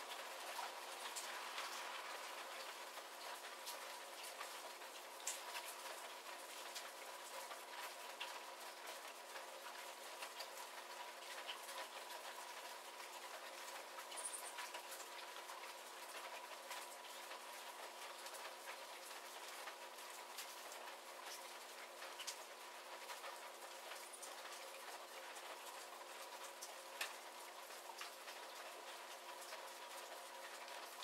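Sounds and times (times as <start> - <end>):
raindrops pattering: 0.0 - 31.0
soft rain hiss: 0.0 - 31.0.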